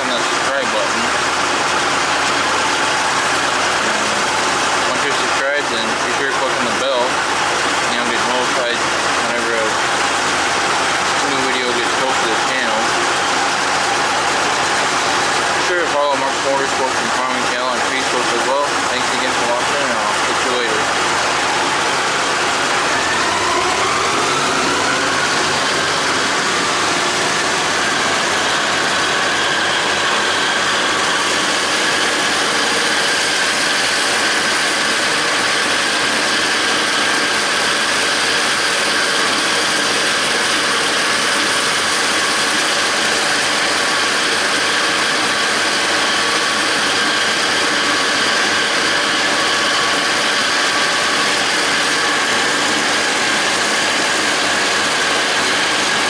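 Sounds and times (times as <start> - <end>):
disc mower whine and clatter: 0.0 - 56.0
tractor engine under load: 0.0 - 56.0.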